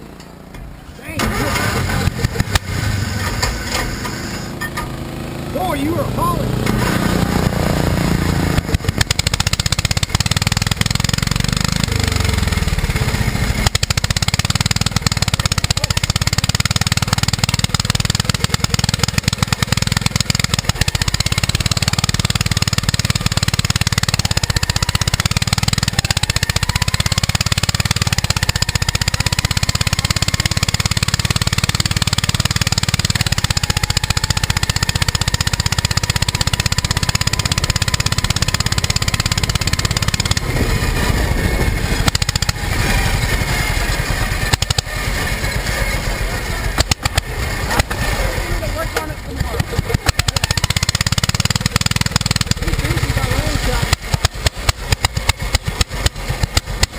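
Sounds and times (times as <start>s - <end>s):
riding lawn mower engine: 0.0s - 56.9s.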